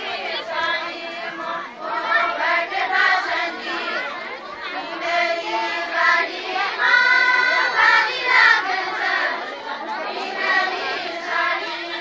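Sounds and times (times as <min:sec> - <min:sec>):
crowd chatter: 0:00.0 - 0:12.0
women singing folk song in chorus: 0:00.0 - 0:12.0.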